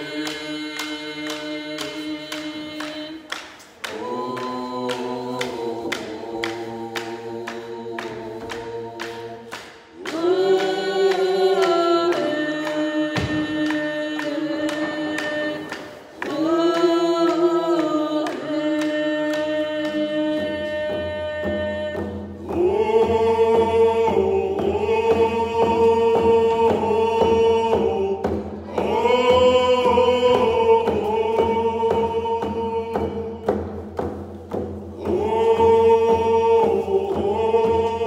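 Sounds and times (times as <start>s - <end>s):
group of people singing: 0.0s - 38.0s
hand drums beating: 0.0s - 38.0s.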